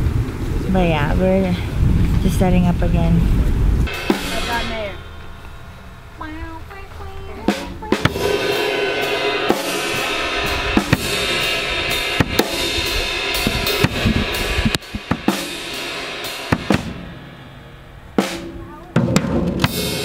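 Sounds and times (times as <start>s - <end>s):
acoustic drum kit playing: 2.3s - 20.0s.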